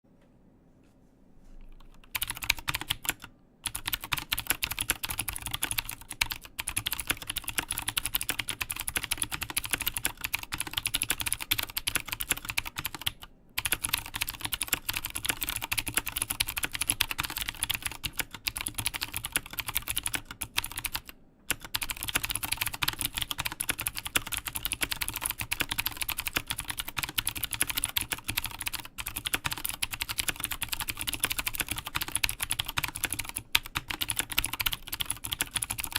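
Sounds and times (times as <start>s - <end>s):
clicky mechanical keyboard typing: 1.7s - 35.9s.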